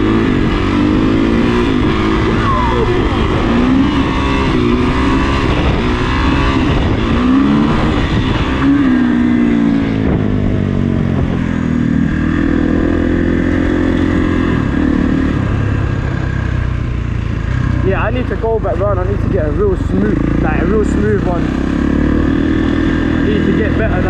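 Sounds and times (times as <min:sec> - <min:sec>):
dirt bike engine revving: 0:00.0 - 0:16.5, 0:17.2 - 0:24.0.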